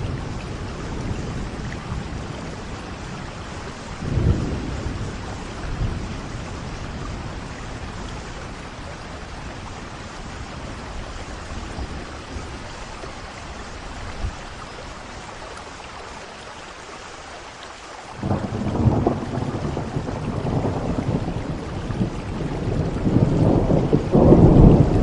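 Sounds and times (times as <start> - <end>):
thunder rumbling and crackling: 0.0 - 14.7, 18.2 - 25.0
rainfall: 0.0 - 25.0.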